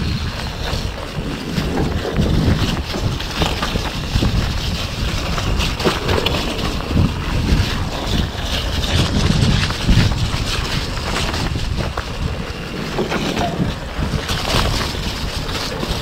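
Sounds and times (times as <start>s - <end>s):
bike clicks and knocks: 0.0s - 16.0s
bike tyre noise: 0.0s - 16.0s
wind rushing over microphone: 0.0s - 16.0s.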